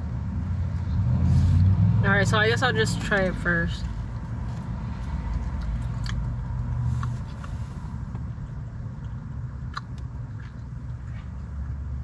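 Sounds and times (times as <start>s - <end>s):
low vehicle rumble in car cabin: 0.0s - 12.0s.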